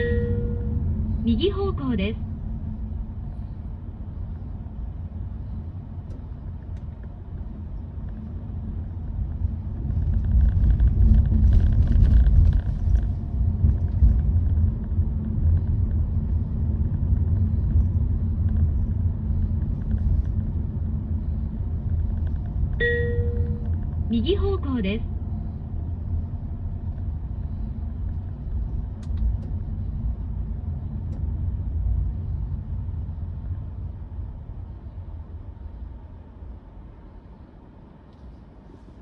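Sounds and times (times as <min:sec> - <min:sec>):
car cabin road noise: 0:00.0 - 0:39.0.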